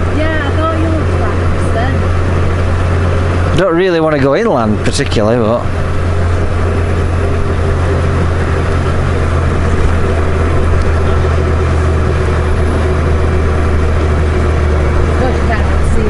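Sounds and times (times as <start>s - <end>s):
motorcycle engine drone: 0.0s - 16.0s
wind and road noise: 0.0s - 16.0s.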